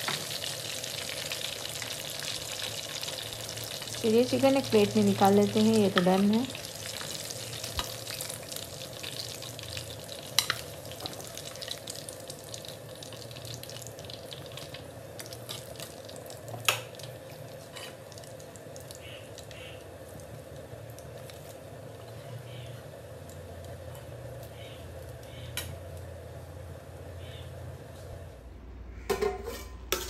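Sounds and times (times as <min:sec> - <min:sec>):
hot oil sizzling and crackling: 0:00.0 - 0:27.1.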